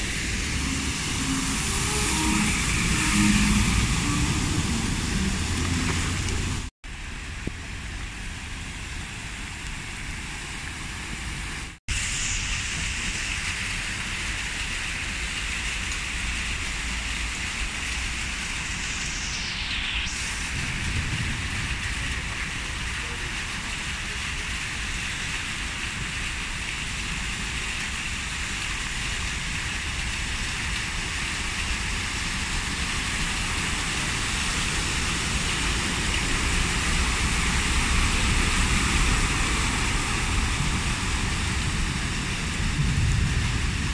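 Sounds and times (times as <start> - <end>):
rain falling on standing water: 0.0 - 19.2, 20.1 - 43.9
tyres spraying through floodwater: 0.0 - 19.2, 20.1 - 43.9.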